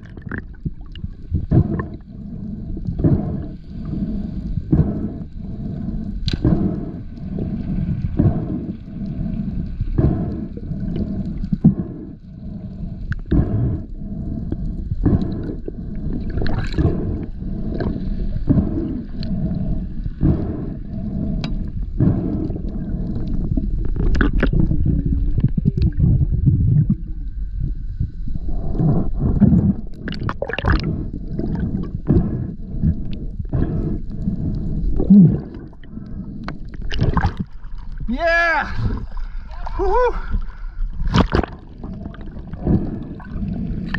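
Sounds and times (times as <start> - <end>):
underwater low rumble: 0.0 - 43.9.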